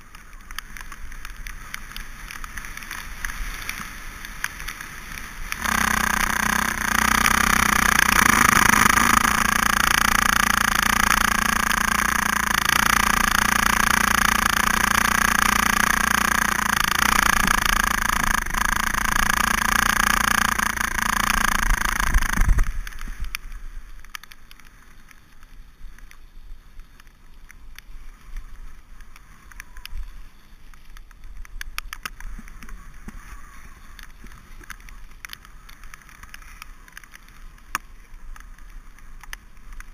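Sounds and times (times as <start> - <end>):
wind and tyre noise: 0.0 - 39.9.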